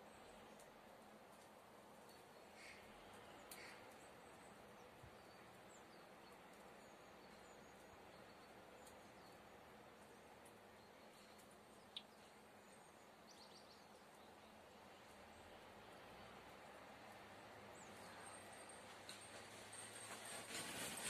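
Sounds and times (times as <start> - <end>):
songbirds chirping: 0.0 - 20.4
faint outdoor hiss: 0.0 - 21.0.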